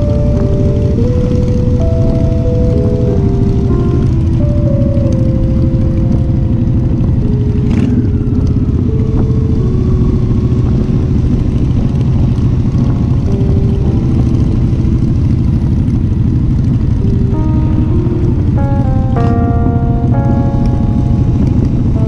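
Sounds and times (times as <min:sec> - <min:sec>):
faint jazz music: 0:00.0 - 0:22.0
motorcycle engine rumble: 0:00.0 - 0:22.0
wind and road noise: 0:00.0 - 0:22.0.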